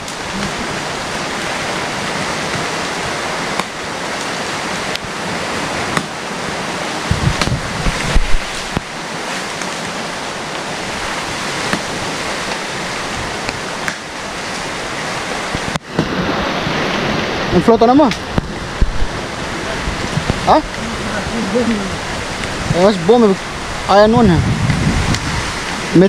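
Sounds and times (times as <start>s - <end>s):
sea water rushing: 0.0s - 26.0s.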